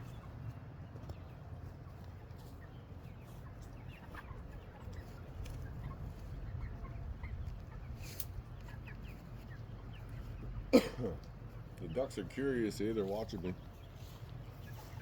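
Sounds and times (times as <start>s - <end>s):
chickens clucking softly: 0.0s - 15.0s.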